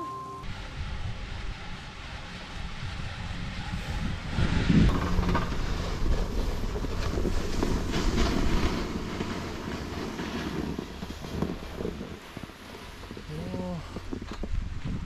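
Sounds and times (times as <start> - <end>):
snowboard sliding over snow: 0.1 - 15.0
wind buffeting microphone: 0.5 - 15.0.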